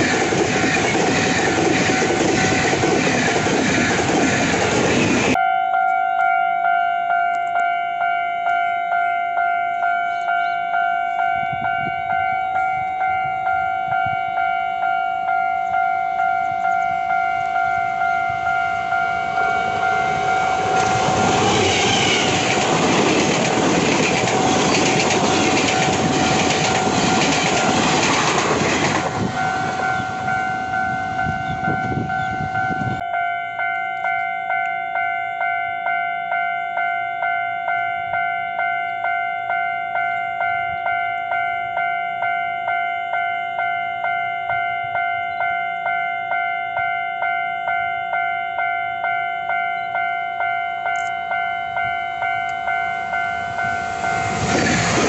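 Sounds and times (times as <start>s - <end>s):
level crossing warning bell: 0.0s - 55.0s
train running on rails: 0.0s - 55.0s.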